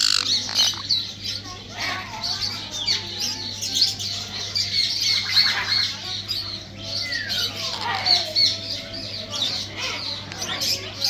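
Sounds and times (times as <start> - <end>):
parrots squawking and chirping: 0.0 - 11.0.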